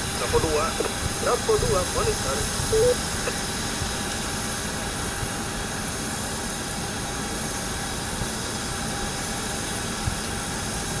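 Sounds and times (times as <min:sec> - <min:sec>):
jet engines running: 0:00.0 - 0:10.6.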